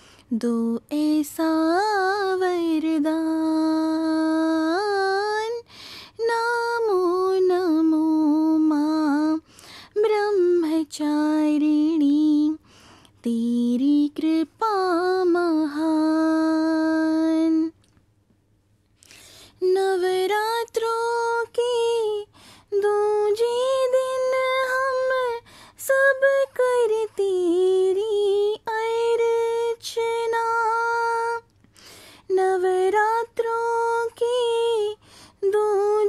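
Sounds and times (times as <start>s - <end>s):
woman singing devotional song: 0.0s - 18.0s, 19.0s - 36.0s.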